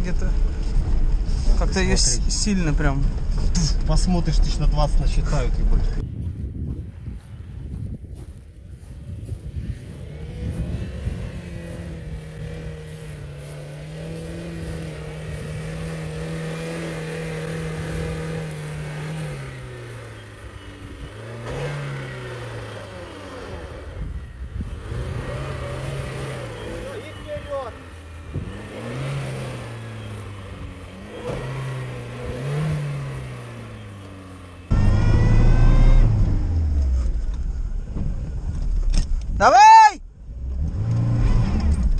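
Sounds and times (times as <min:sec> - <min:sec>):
car engine revving: 0:07.0 - 0:39.2, 0:40.2 - 0:41.9.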